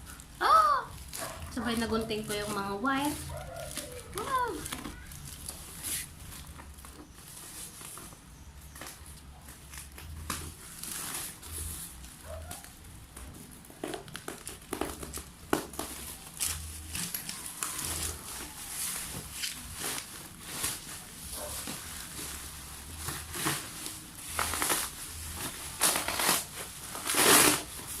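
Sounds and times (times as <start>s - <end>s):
plastic packaging crinkling: 0.0s - 28.0s.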